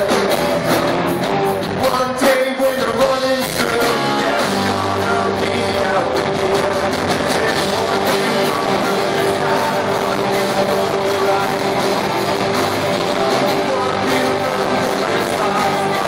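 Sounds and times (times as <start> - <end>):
live rock band playing loudly: 0.0 - 16.0
person singing: 0.0 - 16.0.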